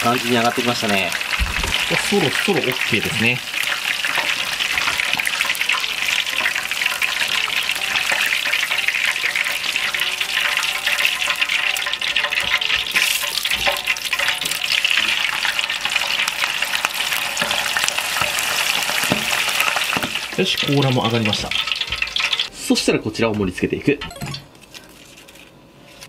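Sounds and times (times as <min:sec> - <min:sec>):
hot oil sizzling: 0:00.0 - 0:22.7.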